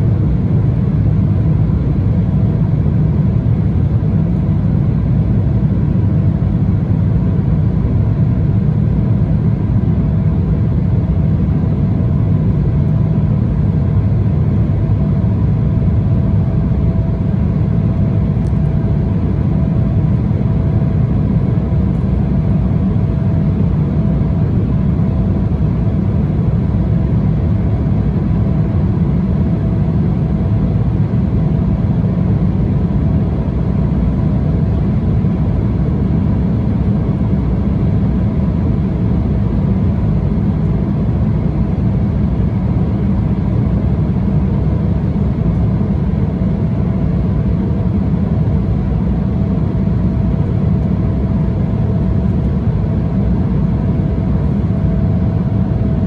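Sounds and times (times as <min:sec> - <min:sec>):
faint steady whine: 0:00.0 - 0:56.0
jet cabin roar: 0:00.0 - 0:56.0.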